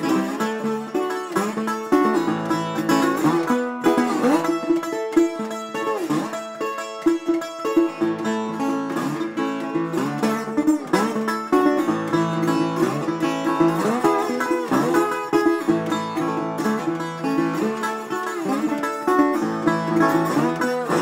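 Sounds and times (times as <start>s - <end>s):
slide resonator guitar: 0.0s - 21.0s.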